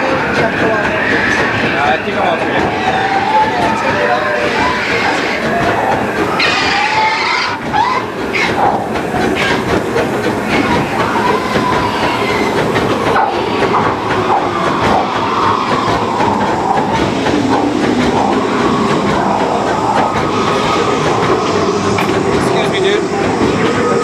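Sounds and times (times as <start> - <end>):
locomotive wheels clattering: 0.0 - 24.0.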